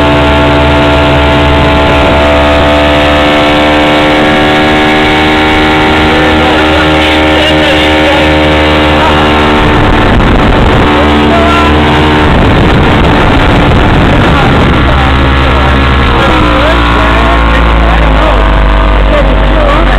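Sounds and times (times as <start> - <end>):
motorboat engine running: 0.0 - 19.9
wind on microphone: 0.0 - 19.9.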